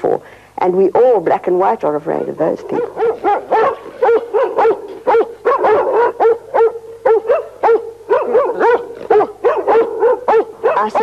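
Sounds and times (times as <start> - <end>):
large dog barking: 2.1 - 11.0.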